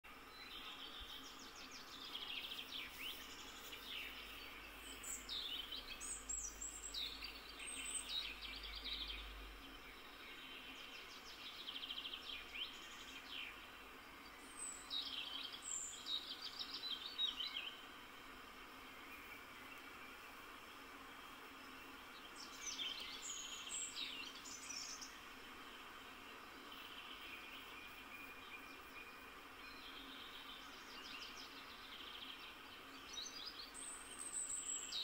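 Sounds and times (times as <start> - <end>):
faint background hiss: 0.1 - 35.0
songbirds singing: 0.1 - 35.0.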